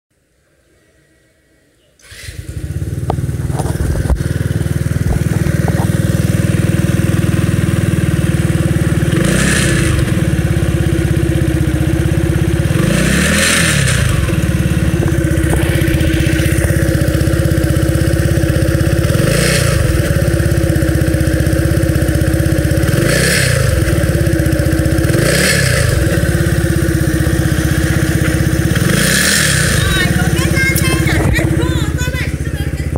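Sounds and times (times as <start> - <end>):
engine starting and revving: 2.0 - 10.8, 12.5 - 21.1, 22.6 - 32.9.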